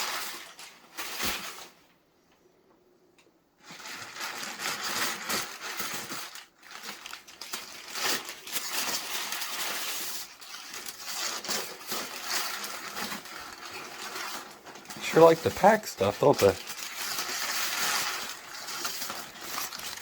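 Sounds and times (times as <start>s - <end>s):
packing material rustling: 0.0s - 1.9s, 3.6s - 20.0s.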